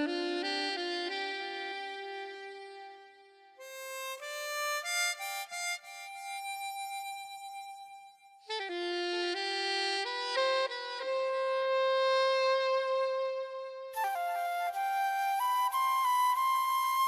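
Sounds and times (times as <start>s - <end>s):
wind instrument melody: 0.0s - 17.0s.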